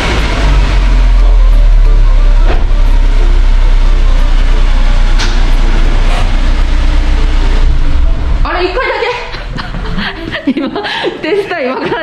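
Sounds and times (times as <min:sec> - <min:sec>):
car engine rumbling: 0:00.0 - 0:11.3.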